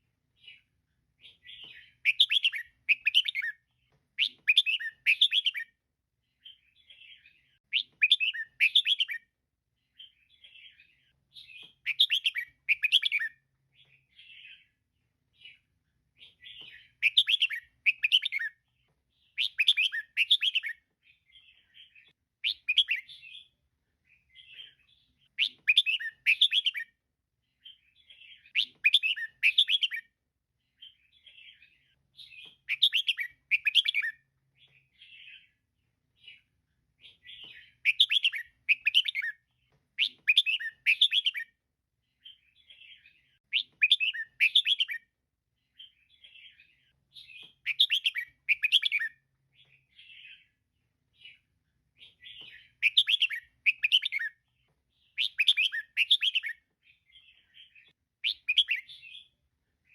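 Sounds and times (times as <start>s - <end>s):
soft bird twitters: 0.0s - 59.9s.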